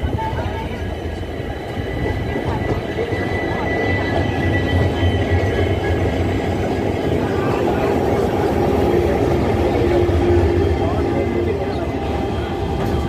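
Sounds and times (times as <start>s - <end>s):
locomotive engine drone: 0.0s - 13.0s
rail noise: 0.0s - 13.0s.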